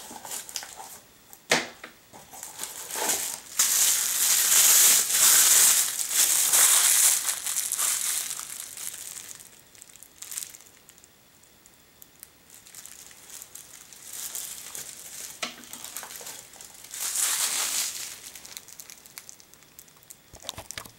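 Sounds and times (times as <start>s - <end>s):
plastic wrapping crinkling: 0.0s - 1.0s, 2.1s - 11.0s, 12.2s - 20.9s.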